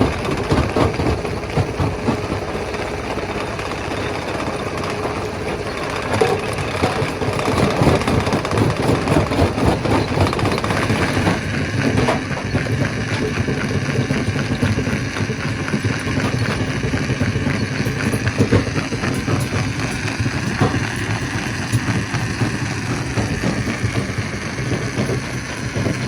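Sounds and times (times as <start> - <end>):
stone crusher rattling: 0.0 - 26.0.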